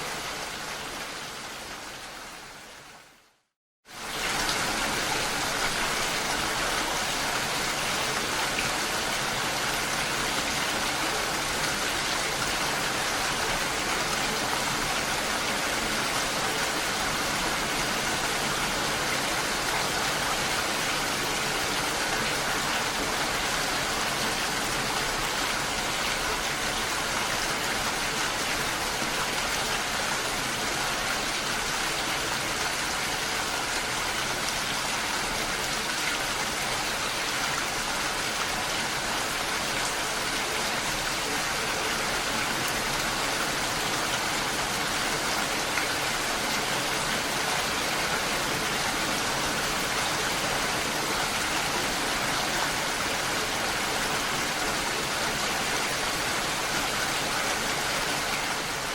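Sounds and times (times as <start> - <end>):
heavy rainfall: 0.0 - 58.9.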